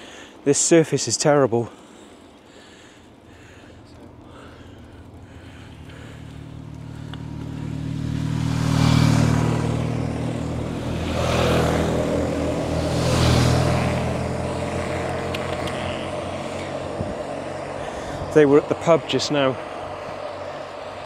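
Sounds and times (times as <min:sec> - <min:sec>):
motorcycles passing: 0:01.5 - 0:21.0.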